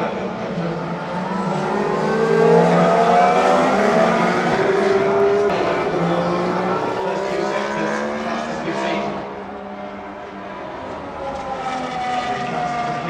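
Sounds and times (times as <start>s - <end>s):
racing cars passing: 0.0s - 13.0s.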